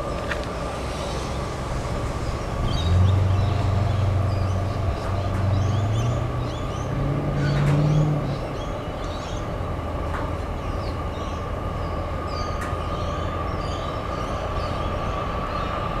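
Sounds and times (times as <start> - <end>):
low engine drone: 0.0 - 16.0
birds chirping: 2.1 - 9.6, 10.5 - 16.0.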